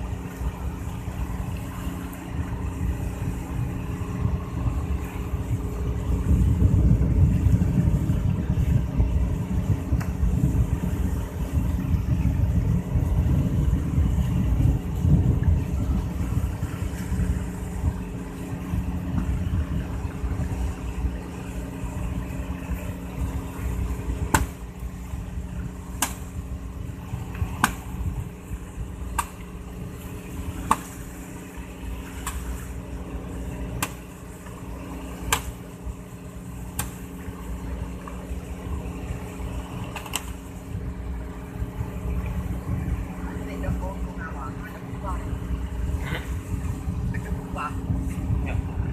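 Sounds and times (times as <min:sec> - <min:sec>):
boat engine running: 0:00.0 - 0:48.9.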